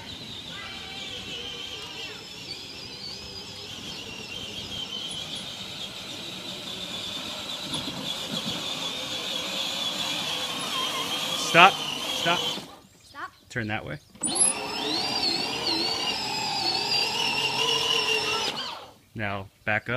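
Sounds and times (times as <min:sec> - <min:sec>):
electric toy car motor whine: 0:00.0 - 0:12.8, 0:14.2 - 0:19.0.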